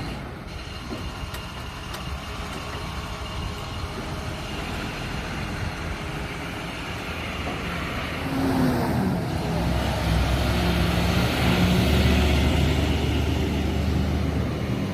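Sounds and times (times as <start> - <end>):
diesel truck engine: 0.0 - 14.9.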